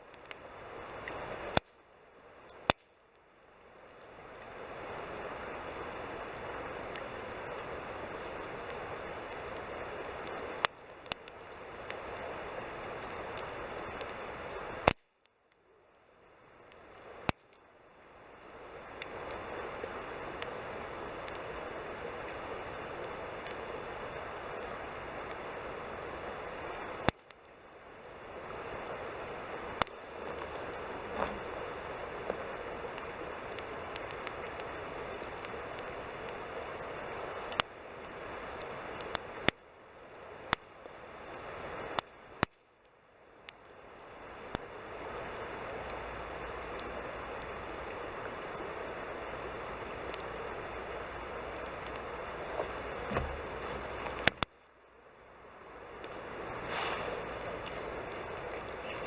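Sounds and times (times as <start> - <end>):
campfire hissing and crackling: 0.0 - 59.0.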